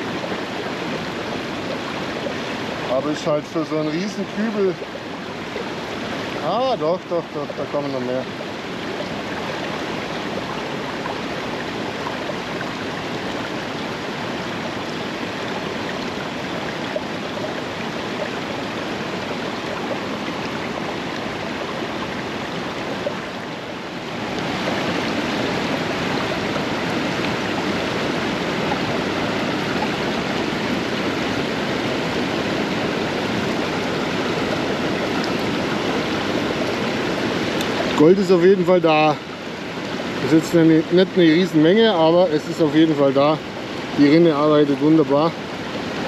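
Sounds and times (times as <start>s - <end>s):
stream water rushing: 0.0s - 46.0s.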